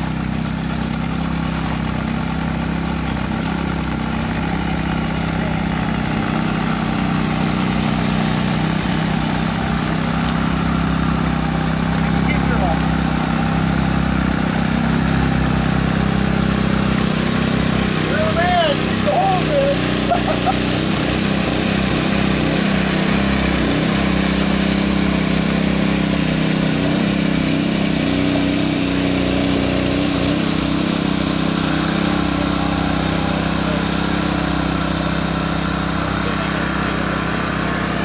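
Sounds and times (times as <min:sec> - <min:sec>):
engine running: 0:00.0 - 0:38.0.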